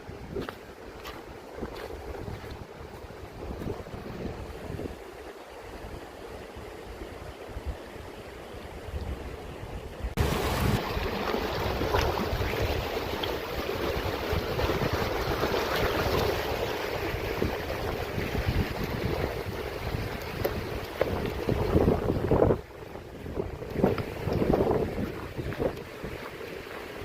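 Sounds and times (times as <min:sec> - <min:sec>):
wind buffeting microphone: 0:00.0 - 0:27.0
mountain stream rushing: 0:00.3 - 0:27.0.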